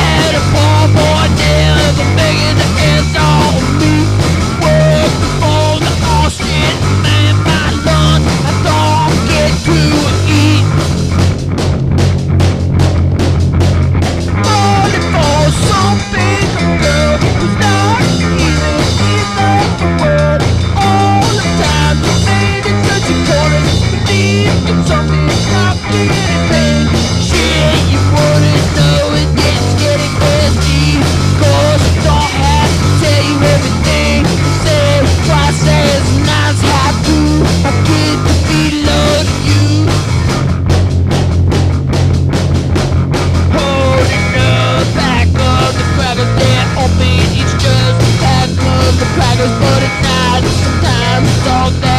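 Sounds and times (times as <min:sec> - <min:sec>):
rock music: 0:00.0 - 0:51.9.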